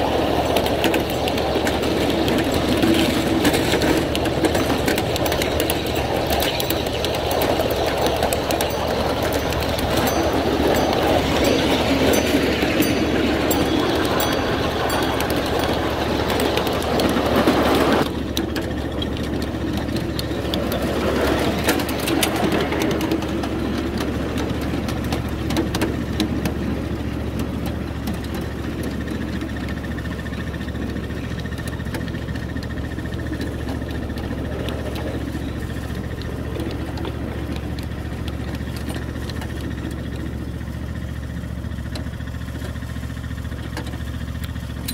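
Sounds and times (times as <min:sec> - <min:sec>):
locomotive engine idling: 0:00.0 - 0:44.9
train rolling on rails: 0:00.0 - 0:44.9.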